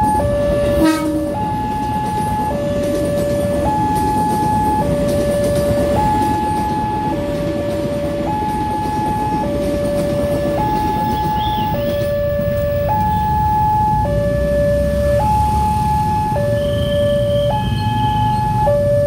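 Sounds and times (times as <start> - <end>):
electric train rumbling past: 0.0 - 19.0
two-tone level crossing alarm: 0.0 - 19.0.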